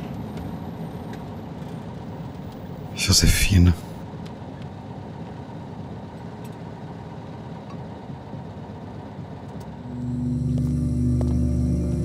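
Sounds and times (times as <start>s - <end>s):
car engine rumbling: 0.6s - 4.0s, 4.7s - 12.0s.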